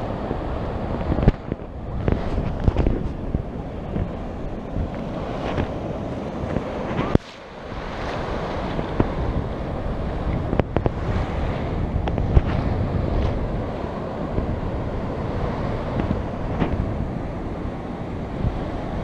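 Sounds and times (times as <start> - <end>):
sea waves washing over sand: 0.0 - 19.0
wind buffeting microphone: 0.0 - 19.0.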